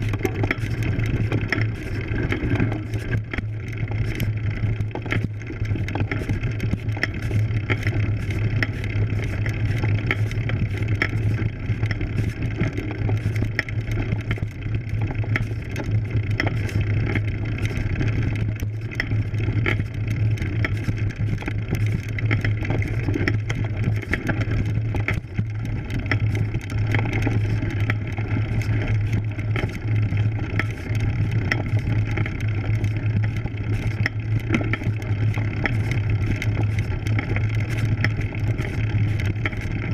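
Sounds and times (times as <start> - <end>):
bike rattling clicks: 0.0 - 39.9
low hum: 0.0 - 39.9.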